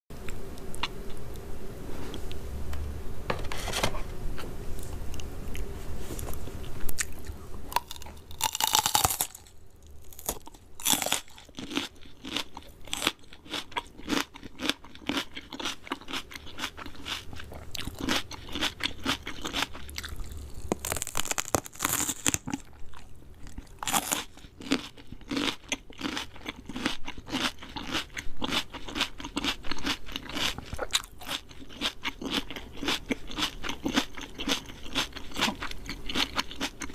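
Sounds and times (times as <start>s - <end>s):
crunching and chewing fried chicken: 4.8s - 36.9s.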